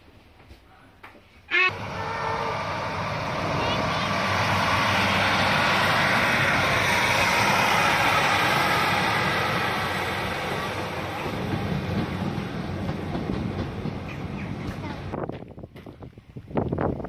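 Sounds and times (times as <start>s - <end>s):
diesel train passing: 1.5s - 15.5s.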